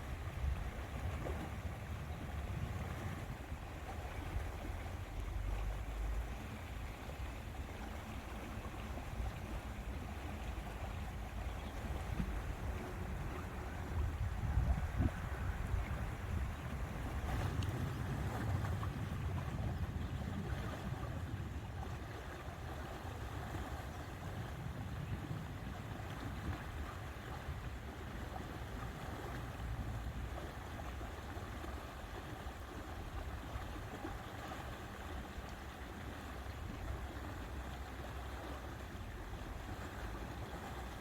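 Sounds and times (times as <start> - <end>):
water lapping: 0.0 - 41.0
wind: 0.0 - 41.0.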